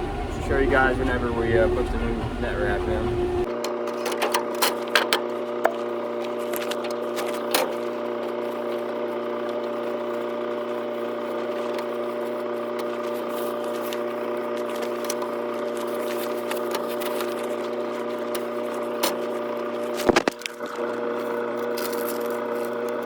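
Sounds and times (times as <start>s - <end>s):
tractor engine drone: 0.0s - 23.0s.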